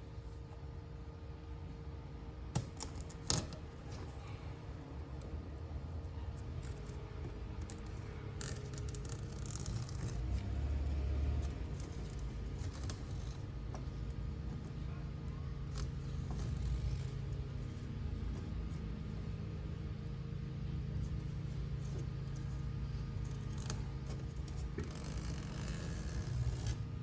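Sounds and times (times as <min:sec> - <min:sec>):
steady low hum: 0:00.0 - 0:27.0
scraping and handling noises: 0:02.6 - 0:27.0.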